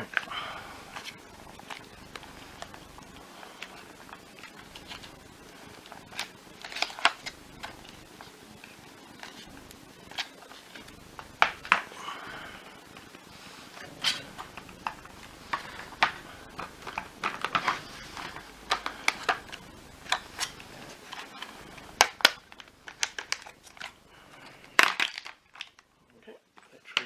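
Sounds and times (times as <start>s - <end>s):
plastic parts clicking and clattering: 0.0s - 11.9s, 13.7s - 25.9s.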